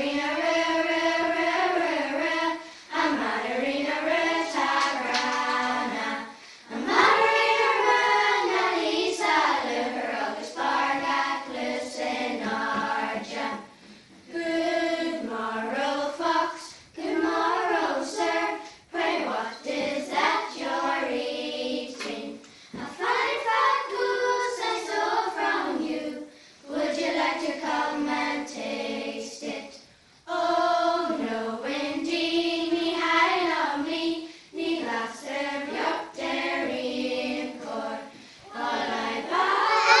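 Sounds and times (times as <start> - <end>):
children's choir singing: 0.0 - 40.0.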